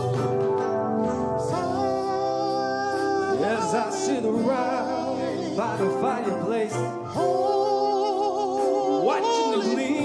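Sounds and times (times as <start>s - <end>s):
male vocal group singing harmony: 1.4s - 10.0s.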